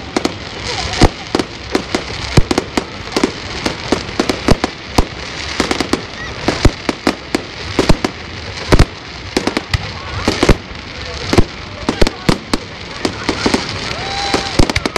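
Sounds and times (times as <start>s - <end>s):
firework shells bursting: 0.0s - 14.9s
fireworks crackling: 0.0s - 14.9s.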